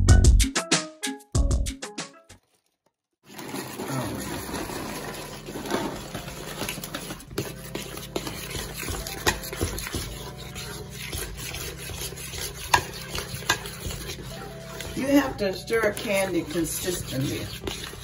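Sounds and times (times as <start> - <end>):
spoon scraping metal pot: 3.3 - 18.0.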